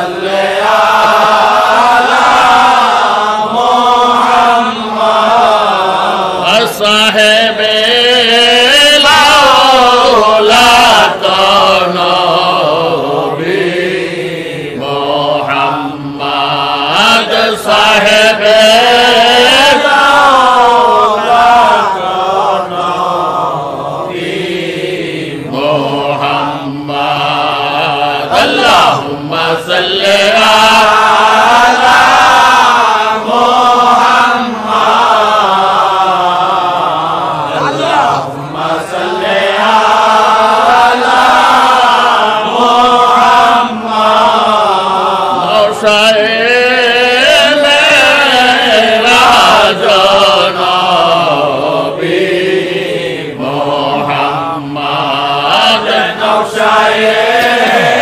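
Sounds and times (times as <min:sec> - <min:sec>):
man chanting: 0:00.2 - 0:23.4, 0:25.4 - 0:31.9, 0:36.4 - 0:52.0, 0:53.4 - 0:56.5.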